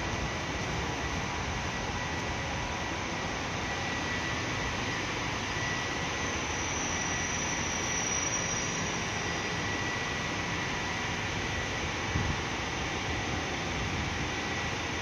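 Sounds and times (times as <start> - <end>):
diesel railcar engines idling: 0.0 - 15.0
thin high-pitched whine: 0.0 - 15.0.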